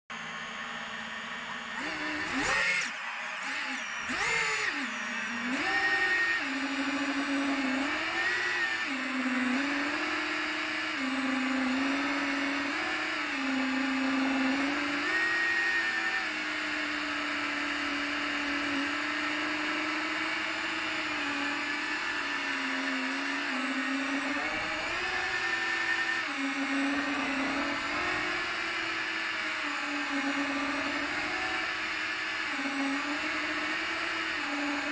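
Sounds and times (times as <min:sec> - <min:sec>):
drone motors whining: 0:00.1 - 0:34.9.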